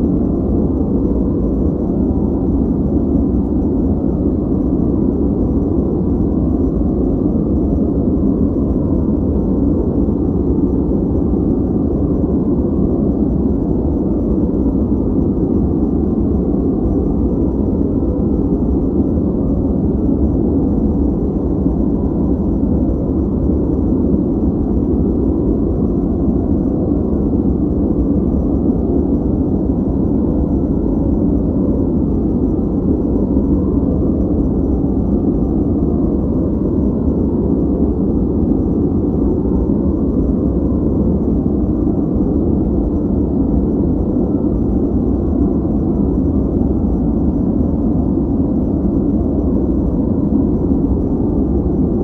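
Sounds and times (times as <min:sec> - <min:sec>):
deep muffled ambient noise: 0:00.0 - 0:52.0
deep rumbling white noise: 0:00.0 - 0:52.0.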